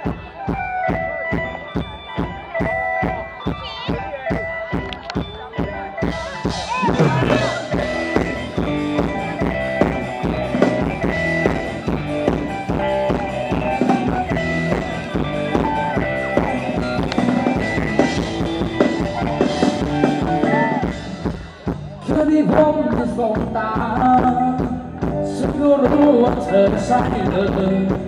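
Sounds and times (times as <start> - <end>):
drums: 0.0 - 28.0
live band playing dance music: 0.0 - 28.0.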